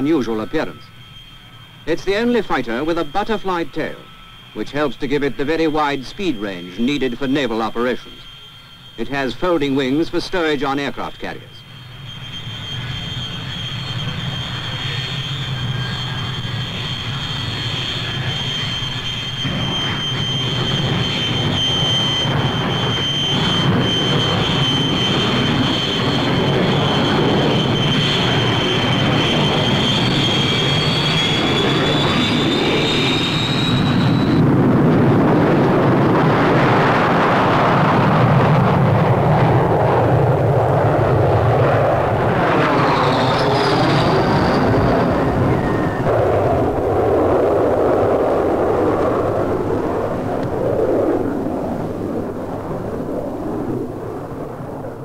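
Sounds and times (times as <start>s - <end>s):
deep jet engine roar: 0.0s - 55.0s
high jet engine whine: 0.0s - 55.0s.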